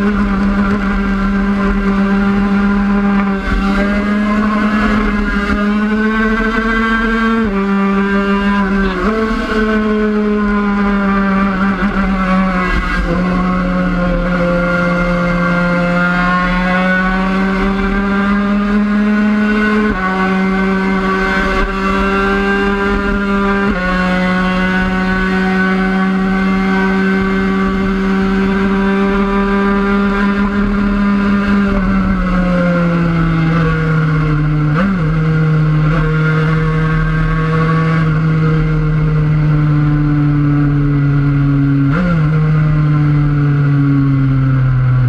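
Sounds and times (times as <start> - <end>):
motorcycle engine at high revs: 0.0 - 45.0.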